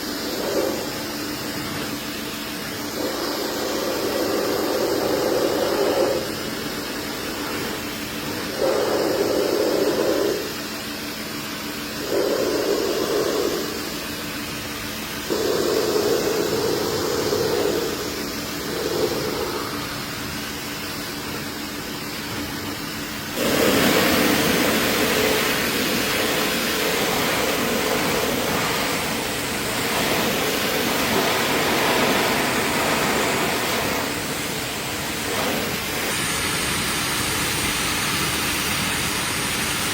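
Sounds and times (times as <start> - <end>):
pressure washer motor humming: 0.0 - 39.9
pressure washer spraying hiss: 0.0 - 39.9.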